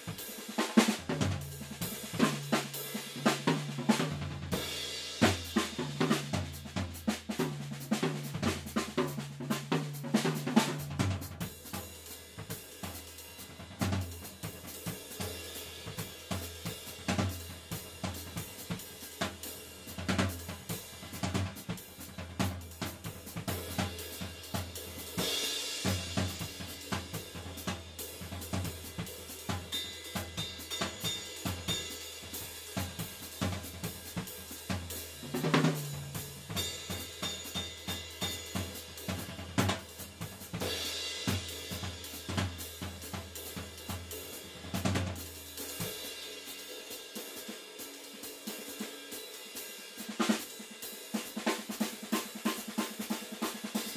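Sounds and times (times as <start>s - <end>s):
drum kit groove: 0.0s - 53.9s.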